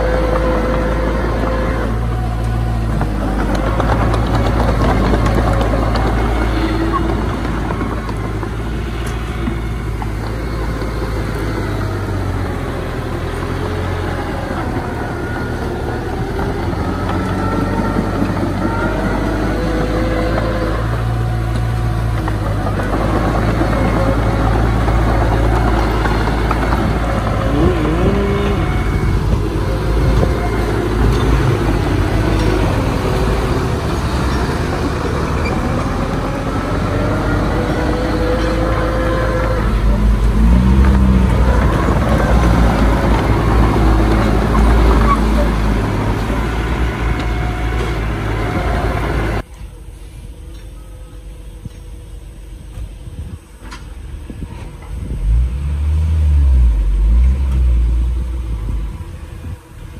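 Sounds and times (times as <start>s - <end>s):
heavy diesel machinery engines: 0.0s - 59.9s.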